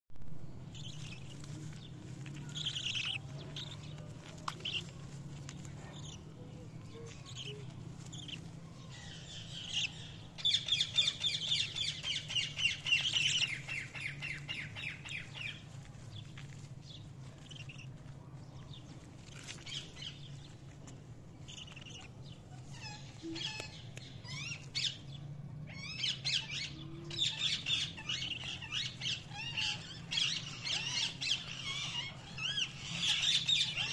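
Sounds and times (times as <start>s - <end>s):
steady low hum: 0.2s - 33.9s
budgerigars chirping and warbling: 0.7s - 20.7s, 21.4s - 33.9s.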